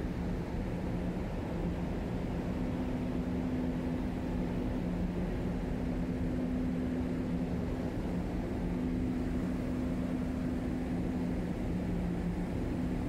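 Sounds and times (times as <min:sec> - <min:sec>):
ferry machinery hum: 0:00.0 - 0:13.0.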